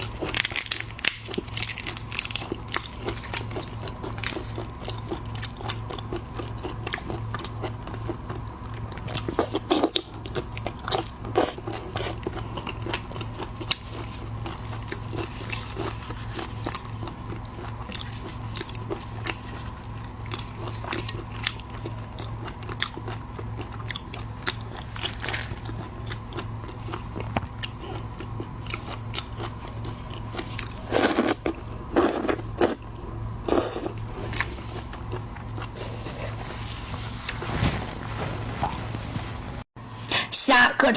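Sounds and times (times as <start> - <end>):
crunching and chewing seafood: 0.0 - 39.3
steady low hum: 0.0 - 40.9.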